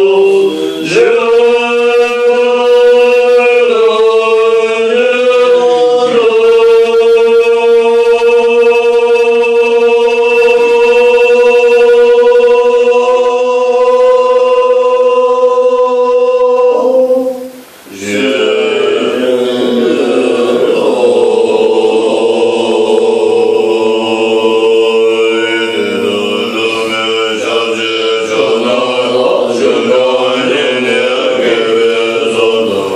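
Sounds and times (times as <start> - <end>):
monks chanting: 0.0 - 32.9.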